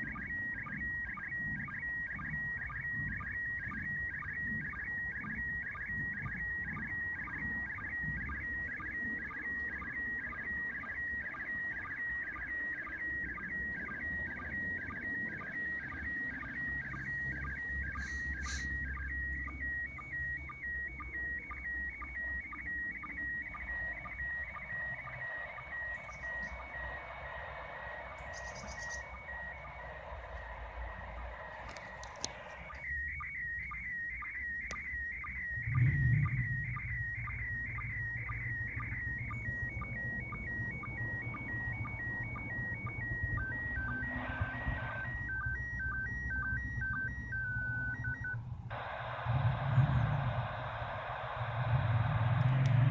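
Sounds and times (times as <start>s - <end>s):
warbling data tone: 0.0s - 52.9s
radio static hiss: 3.7s - 46.5s, 48.6s - 52.9s.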